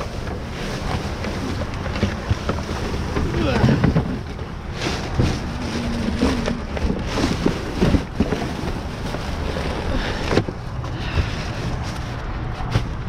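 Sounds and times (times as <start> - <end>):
items rustling and knocking: 0.0 - 13.0.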